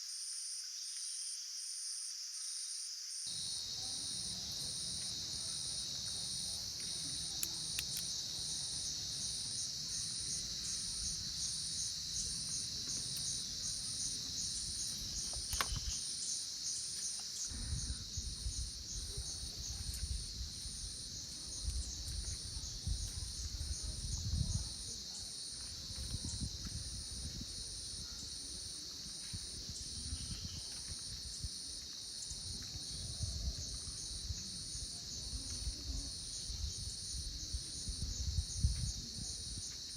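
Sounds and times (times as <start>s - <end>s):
forest insects buzzing: 0.0s - 39.9s.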